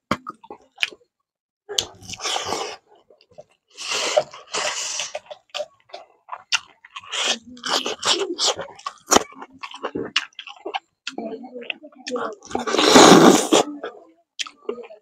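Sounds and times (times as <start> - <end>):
chewing and smacking mouth noises: 0.1 - 1.0, 1.7 - 12.9, 13.5 - 15.0.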